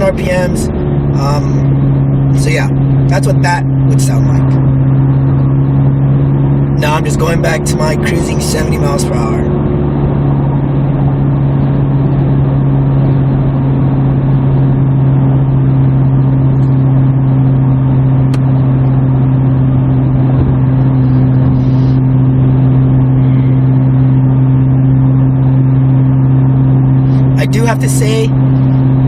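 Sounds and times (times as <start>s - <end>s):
car exhaust drone: 0.0s - 29.0s
road noise: 0.0s - 29.0s.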